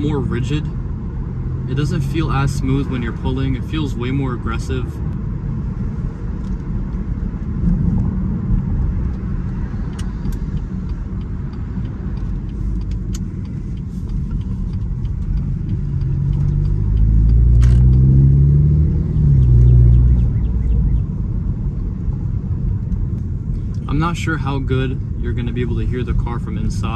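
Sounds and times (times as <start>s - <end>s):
car engine accelerating: 0.0s - 26.9s
low road rumble: 0.0s - 26.9s.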